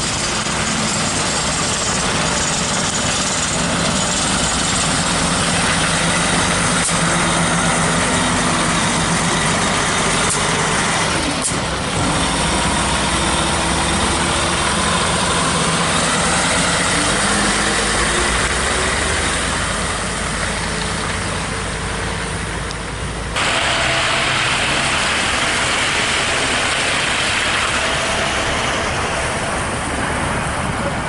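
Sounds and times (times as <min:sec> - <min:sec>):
diesel truck engine running: 0:00.0 - 0:31.0
tyres hissing on slushy road: 0:00.0 - 0:31.0.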